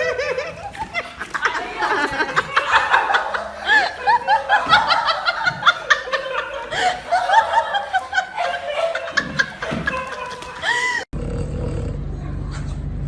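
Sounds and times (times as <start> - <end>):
person laughing high-pitched: 0.0 - 11.1.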